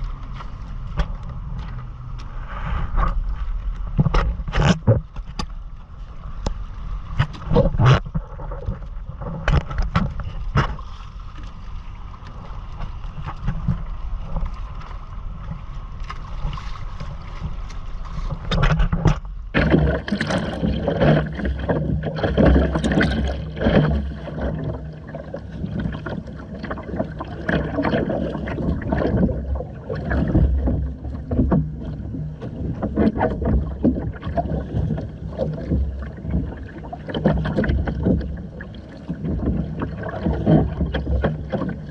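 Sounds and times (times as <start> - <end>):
water splashing against hull: 0.0 - 41.9.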